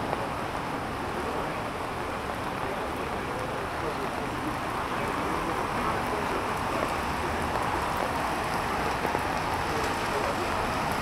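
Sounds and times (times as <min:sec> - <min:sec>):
rain falling on a street: 0:00.0 - 0:11.0.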